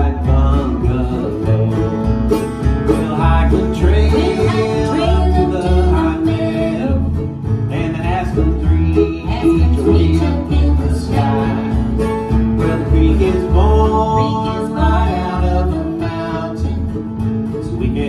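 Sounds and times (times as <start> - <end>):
acoustic guitars: 0.0 - 18.0
mandolin: 0.0 - 18.0
plucked upright bass: 0.0 - 18.0.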